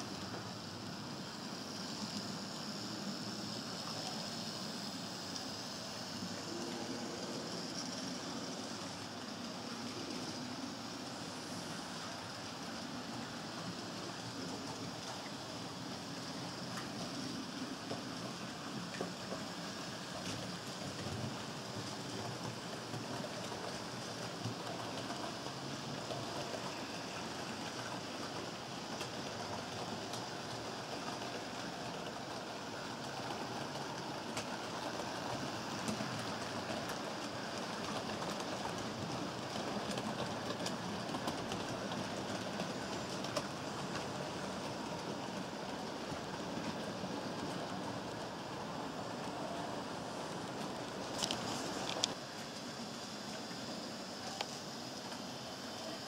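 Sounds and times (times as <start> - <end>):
model train motors whirring: 0.0 - 56.0
wheels rattling on track: 0.0 - 56.0.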